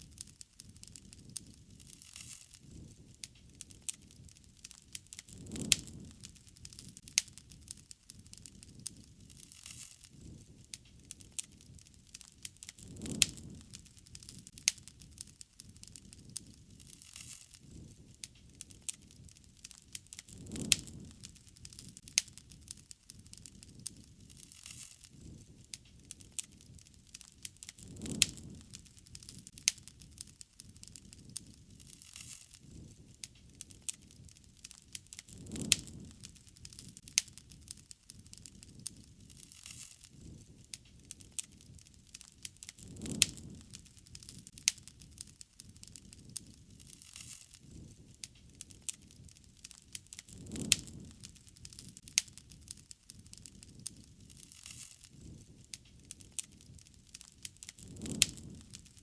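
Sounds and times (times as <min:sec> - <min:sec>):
low rush of flame: 0:00.0 - 0:59.0
wood fire crackling and popping: 0:00.0 - 0:59.0.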